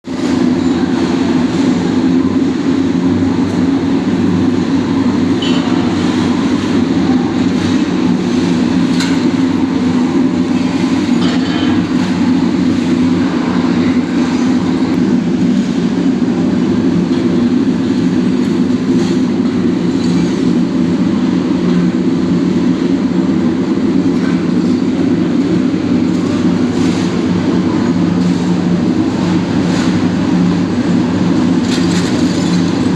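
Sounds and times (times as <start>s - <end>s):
furnace low rumble: 0.0s - 32.9s.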